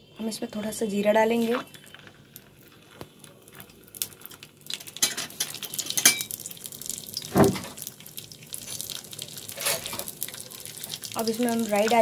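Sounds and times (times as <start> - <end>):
seeds sizzling and popping in oil: 0.2 - 12.0.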